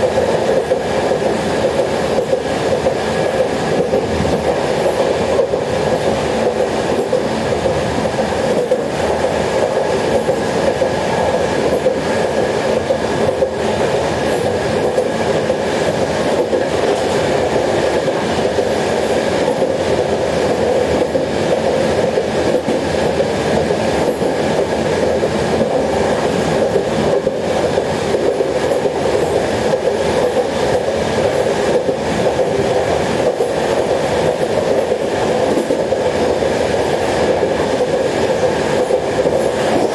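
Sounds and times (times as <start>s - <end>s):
train carriage rumble and rattle: 0.0s - 39.9s.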